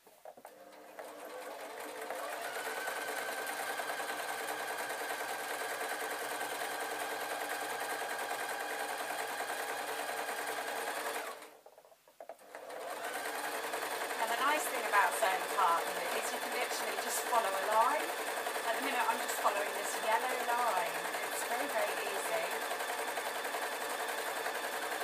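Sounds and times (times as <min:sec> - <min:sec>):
sewing machine stitching: 0:00.0 - 0:25.0.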